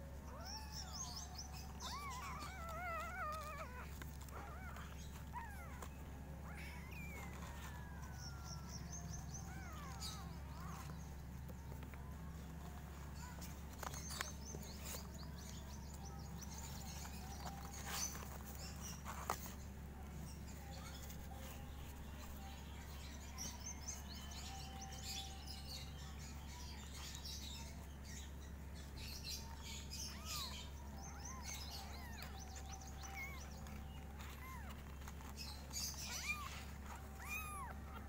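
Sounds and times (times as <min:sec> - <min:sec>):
kittens mewing: 0:00.2 - 0:23.6, 0:29.5 - 0:38.0.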